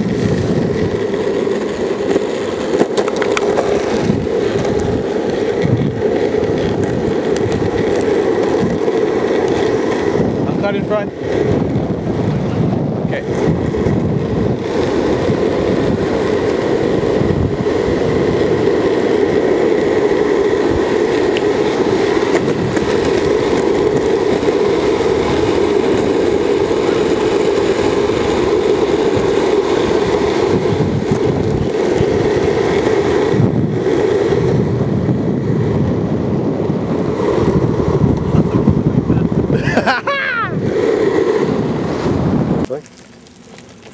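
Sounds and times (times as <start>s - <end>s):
wind on microphone: 0.0s - 42.8s
longboard wheels on asphalt: 0.0s - 43.9s.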